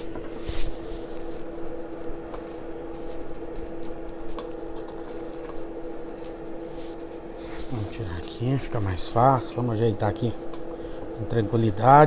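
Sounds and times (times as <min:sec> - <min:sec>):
air fryer hum: 0:00.0 - 0:12.0.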